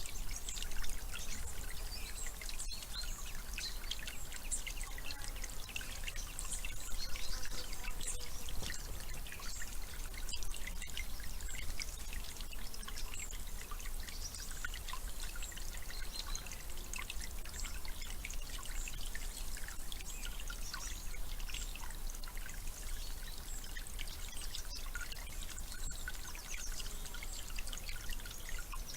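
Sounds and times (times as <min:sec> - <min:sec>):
water trickling and pouring: 0:00.0 - 0:28.9.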